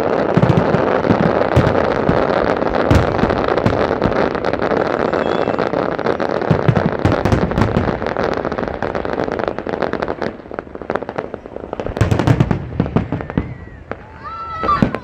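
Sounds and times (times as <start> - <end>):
fireworks bangs: 0.0 - 15.0
fireworks crackling and popping: 0.0 - 15.0.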